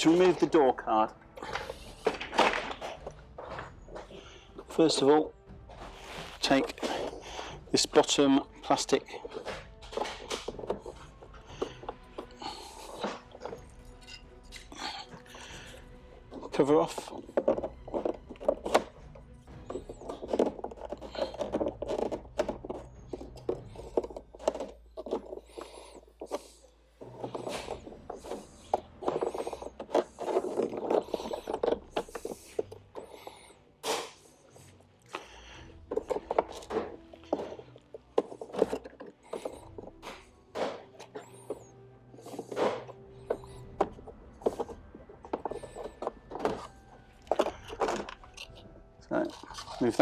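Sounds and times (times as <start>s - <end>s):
plastic scraping on plastic: 5.8s - 50.0s.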